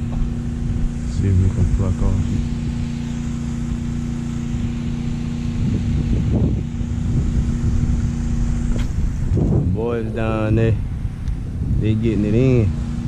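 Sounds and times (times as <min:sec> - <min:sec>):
low motor hum: 0:00.0 - 0:13.0
wind buffeting microphone: 0:00.0 - 0:13.0.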